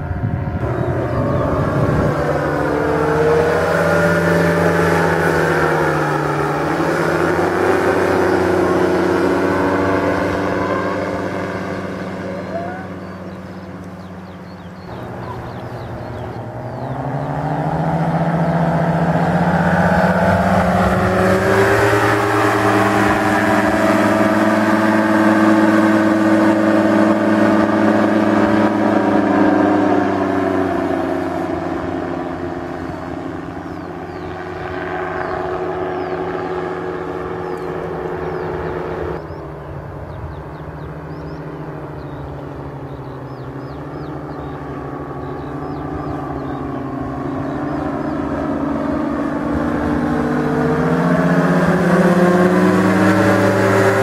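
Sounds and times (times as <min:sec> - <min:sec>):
paramotor engine droning: 0:00.0 - 0:54.0.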